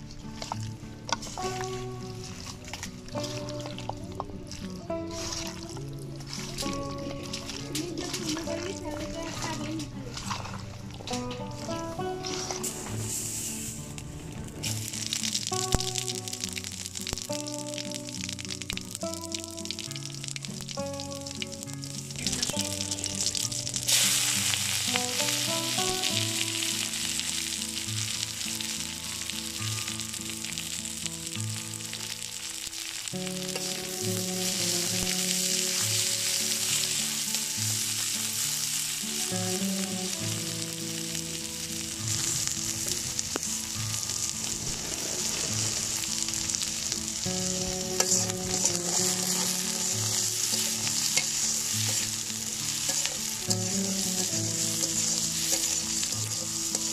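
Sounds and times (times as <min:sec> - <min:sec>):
onions sizzling in hot oil: 0:00.6 - 0:07.7, 0:11.1 - 0:56.9.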